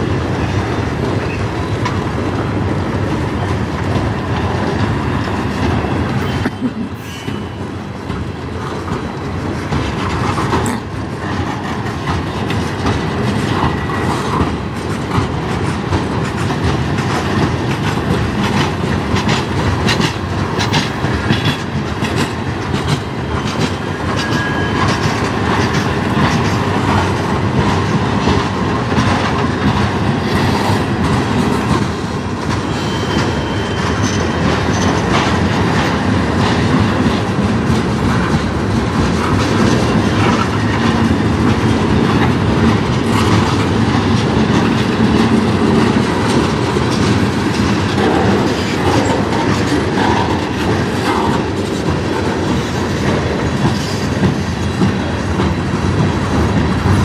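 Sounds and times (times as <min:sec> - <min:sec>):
freight train wheels rumbling: 0:00.0 - 0:57.0
wheels clacking over rail joints: 0:00.0 - 0:57.0.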